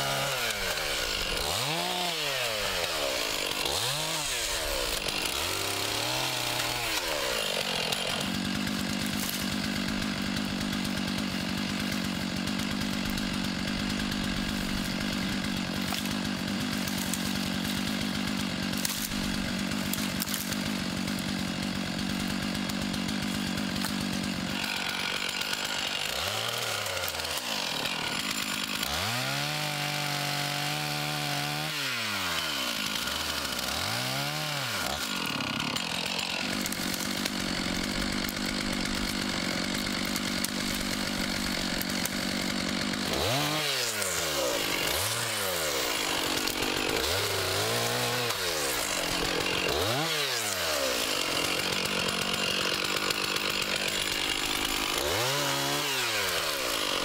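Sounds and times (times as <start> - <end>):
chainsaw cutting limbs: 0.0 - 57.0.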